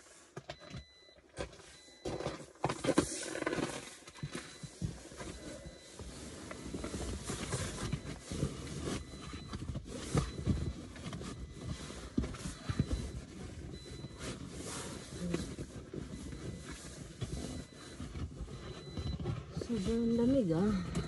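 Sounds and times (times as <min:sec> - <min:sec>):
seat cover rustling and scraping: 0:02.6 - 0:20.6.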